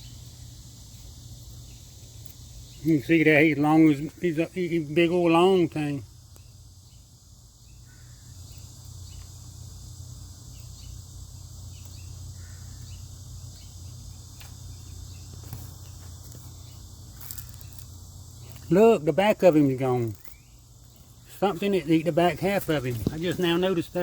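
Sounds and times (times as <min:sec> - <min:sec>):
high insect chorus: 0:00.0 - 0:24.0
steady low hum: 0:00.0 - 0:24.0.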